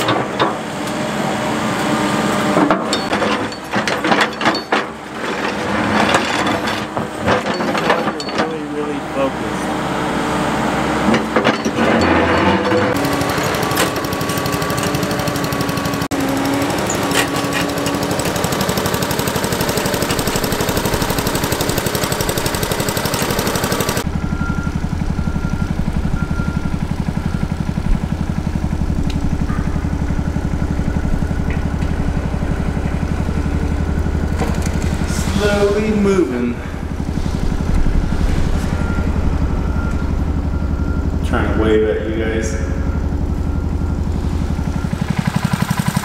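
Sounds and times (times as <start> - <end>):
engine running with pulsing rumble: 0.0 - 46.0.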